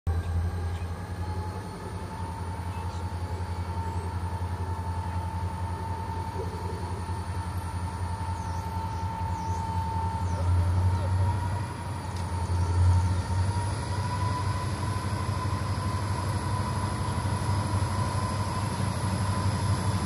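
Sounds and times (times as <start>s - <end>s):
diesel locomotive engine rumble: 0.1s - 20.0s.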